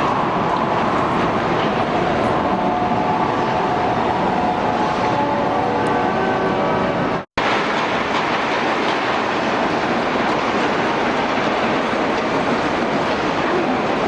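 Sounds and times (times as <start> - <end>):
train rushing past platform: 0.0 - 14.0.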